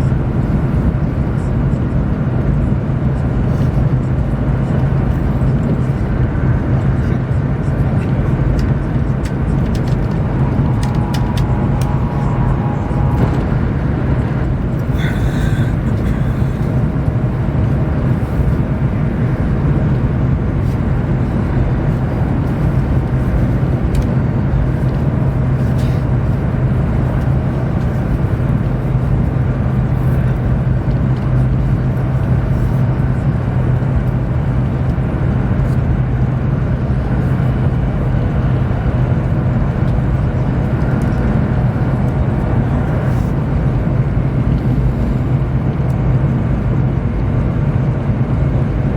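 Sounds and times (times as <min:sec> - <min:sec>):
train cabin rumble: 0:00.0 - 0:48.9.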